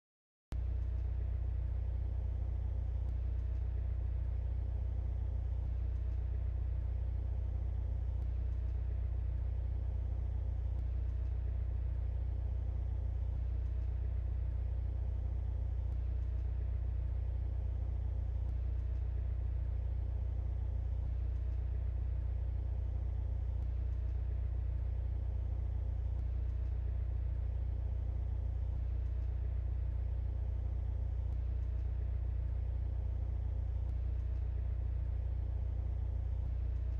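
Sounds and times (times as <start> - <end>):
car engine running steadily: 0.5 - 36.9.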